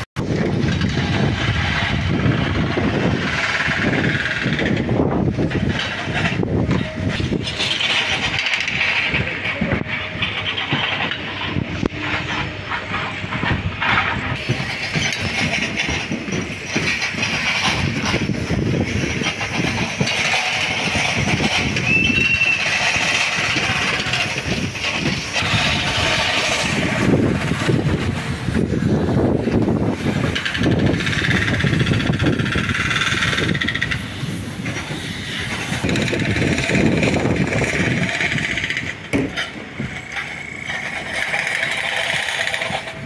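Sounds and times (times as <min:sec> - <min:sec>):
construction machinery: 0:00.0 - 0:43.0
traffic: 0:00.0 - 0:43.0.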